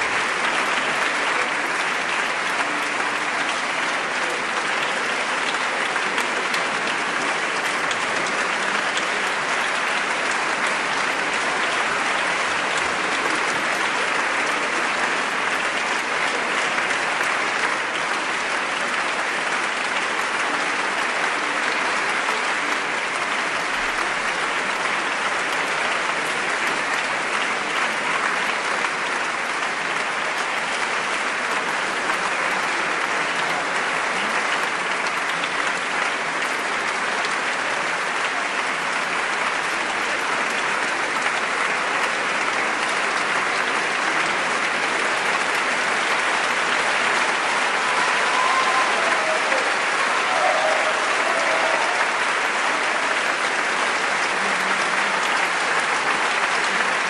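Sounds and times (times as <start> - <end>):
large audience applauding: 0.0 - 57.0.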